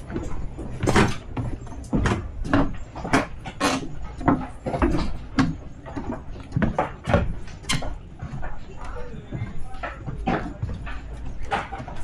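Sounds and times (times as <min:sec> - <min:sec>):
footsteps on boat deck: 0:00.0 - 0:12.0.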